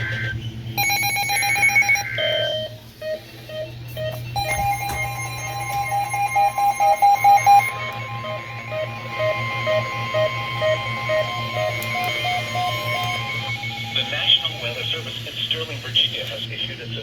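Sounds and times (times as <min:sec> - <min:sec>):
electronic alarm beeping: 0:00.0 - 0:16.1
steady warning alert tone: 0:00.0 - 0:16.7.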